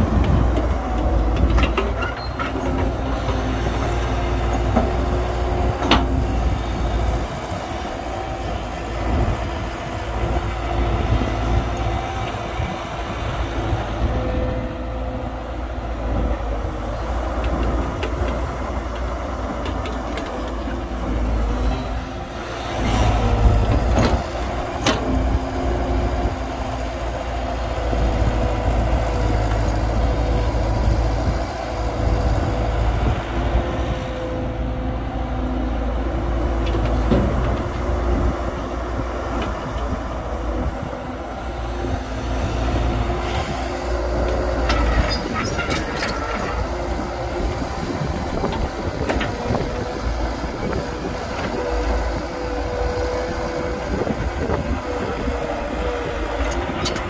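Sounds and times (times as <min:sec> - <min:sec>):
heavy diesel engines rumbling: 0:00.0 - 0:57.0.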